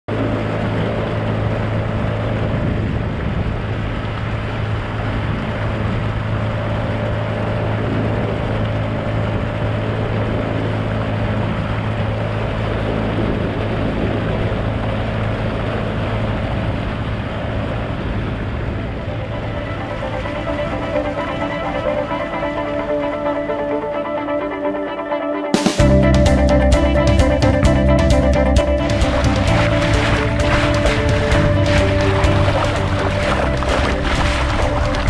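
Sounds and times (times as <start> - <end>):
water rushing: 0.1 - 25.0, 25.8 - 35.0
boat motor humming: 0.1 - 35.0
wind: 0.1 - 35.0.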